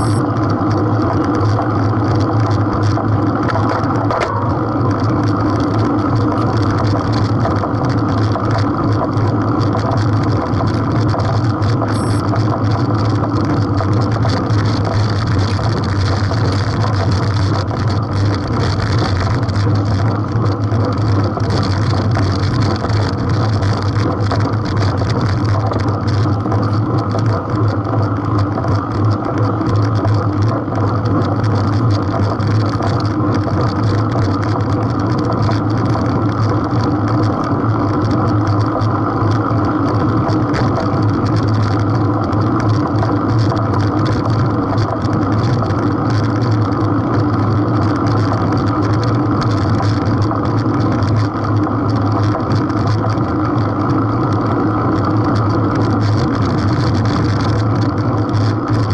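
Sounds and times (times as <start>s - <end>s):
bike tyres rolling on asphalt: 0.0s - 58.9s
wind rush on microphone: 0.0s - 58.9s.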